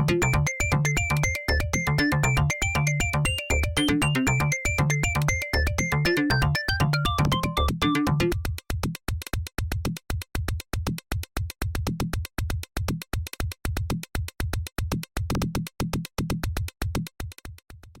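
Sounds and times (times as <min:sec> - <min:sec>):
electronic music with drum-machine beat: 0:00.0 - 0:17.1.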